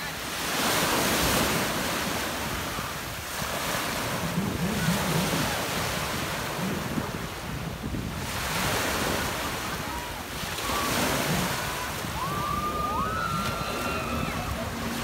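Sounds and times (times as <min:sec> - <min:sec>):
small waves washing on beach: 0:00.0 - 0:15.0
wind buffeting microphone: 0:00.5 - 0:15.0.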